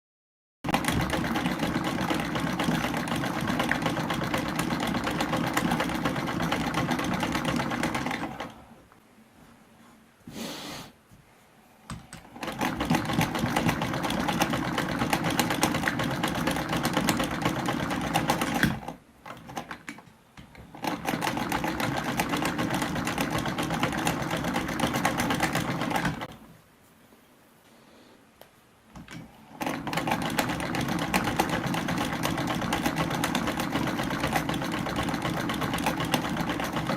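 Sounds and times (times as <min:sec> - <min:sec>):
sewing machine stitching: 0:00.7 - 0:08.7, 0:12.0 - 0:26.4, 0:29.0 - 0:36.9.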